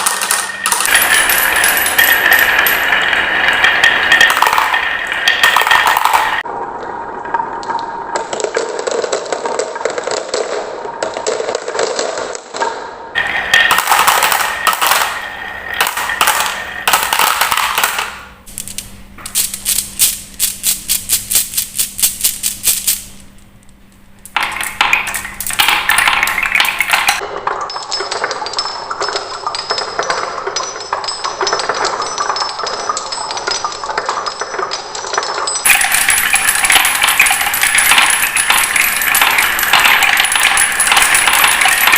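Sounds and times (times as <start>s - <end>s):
marbles clattering down wooden tracks: 0.0s - 6.5s, 7.6s - 23.2s, 24.2s - 41.9s.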